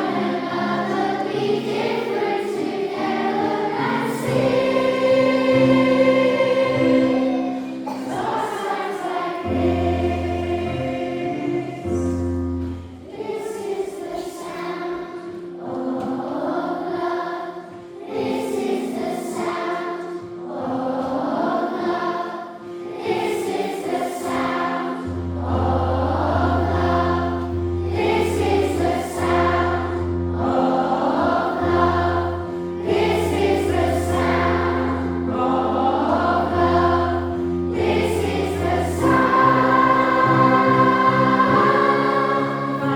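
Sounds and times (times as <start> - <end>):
children's choir singing: 0.0 - 42.9.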